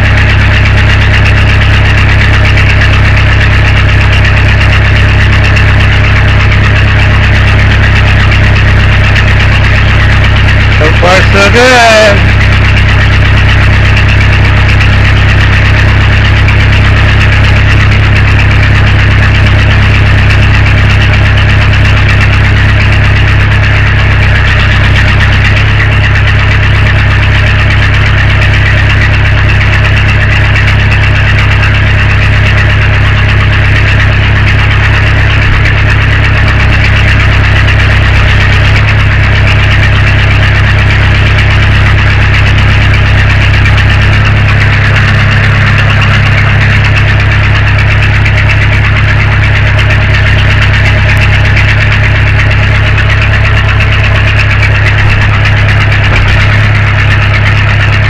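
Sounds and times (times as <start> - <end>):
backhoe engine running: 0.0 - 58.0.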